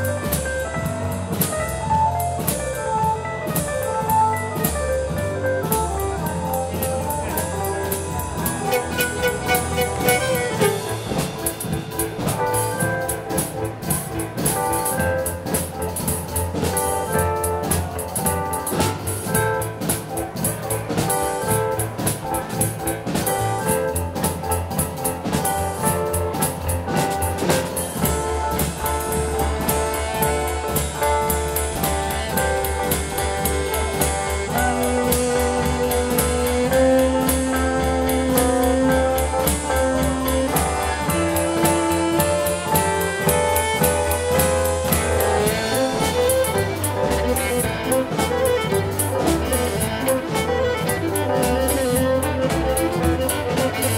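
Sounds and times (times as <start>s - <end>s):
dance band playing: 0.0s - 53.9s
fiddle: 0.0s - 53.9s
low bass line: 0.0s - 53.9s.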